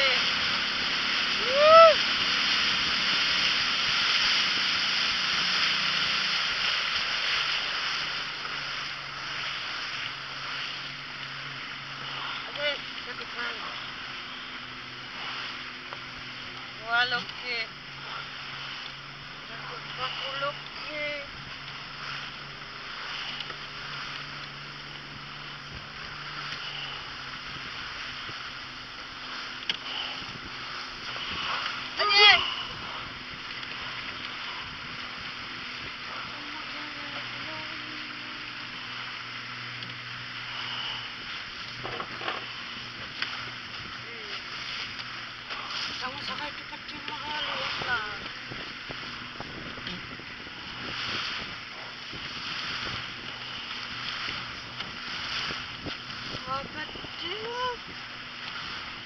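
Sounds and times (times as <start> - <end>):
low motor hum: 0.0 - 59.0
water rushing: 0.0 - 59.0
wind hiss: 0.0 - 59.0.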